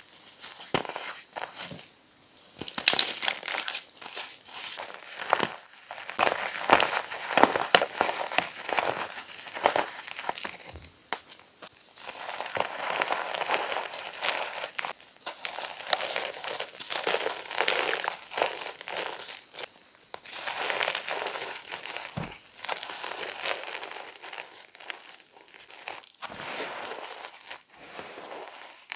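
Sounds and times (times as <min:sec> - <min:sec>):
chalk being crushed: 0:00.0 - 0:01.9, 0:02.5 - 0:28.9.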